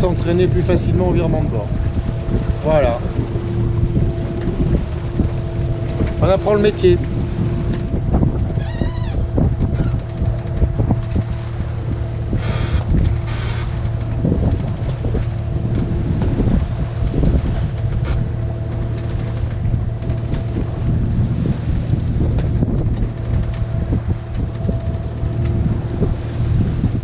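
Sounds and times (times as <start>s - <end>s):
boat engine droning: 0.0s - 27.0s
water rushing past hull: 0.0s - 27.0s
wind buffeting microphone: 0.0s - 27.0s.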